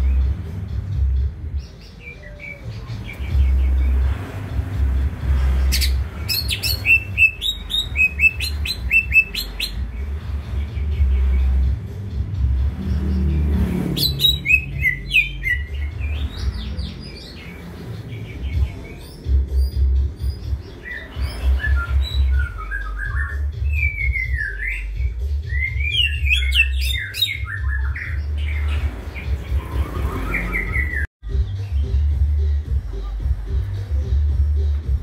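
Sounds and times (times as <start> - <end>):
bird singing fast chirps: 1.5 - 32.2.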